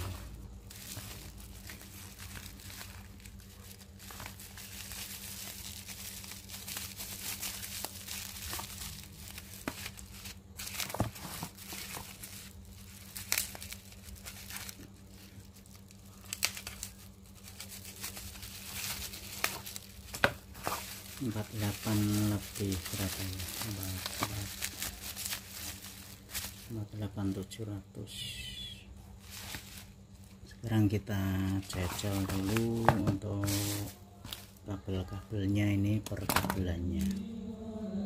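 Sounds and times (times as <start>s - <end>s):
bubble wrap crinkling: 0.0s - 37.2s.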